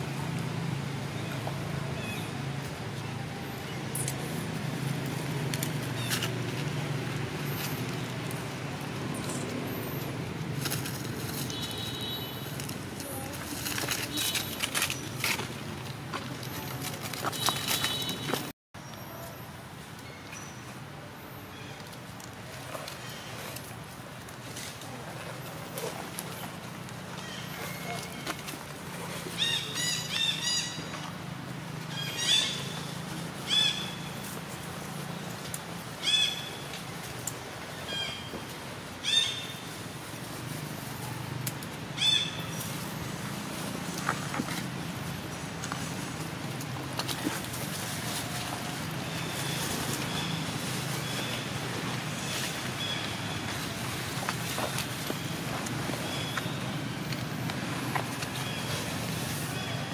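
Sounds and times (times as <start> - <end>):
dry leaves crackling under steps: 0.3 - 18.5, 21.5 - 59.9.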